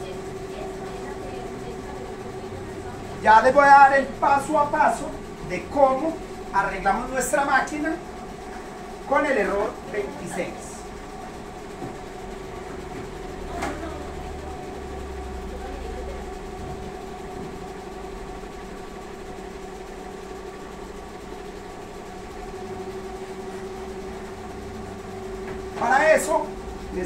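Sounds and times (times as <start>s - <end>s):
embroidery machine electrical hum: 0.0s - 27.0s.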